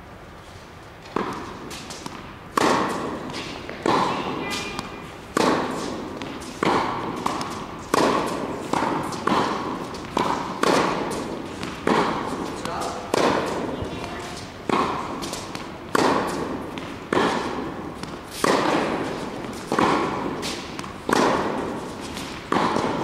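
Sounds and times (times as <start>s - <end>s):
tennis ball hit by racket: 1.0s - 23.0s.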